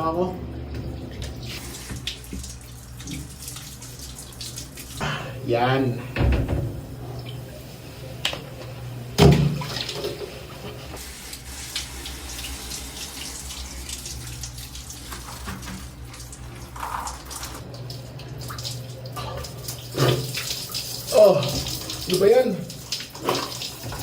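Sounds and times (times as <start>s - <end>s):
shower water spraying: 1.0s - 5.6s, 6.2s - 24.0s.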